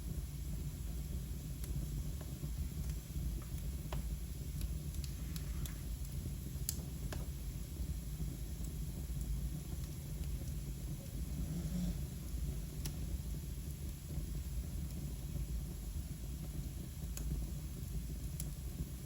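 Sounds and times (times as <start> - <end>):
fire crackles: 0.0 - 19.0
wood fire rumbling: 0.0 - 19.0.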